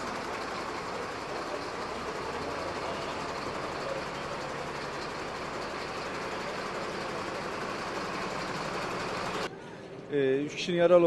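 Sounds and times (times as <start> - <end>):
fire truck engine idling: 0.0 - 9.5.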